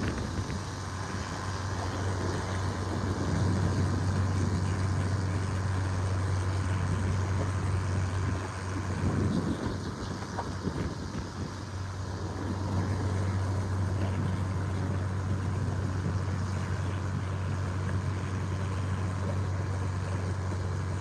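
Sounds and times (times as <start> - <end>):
boat engine humming: 0.0 - 21.0
steady rushing noise: 0.0 - 21.0.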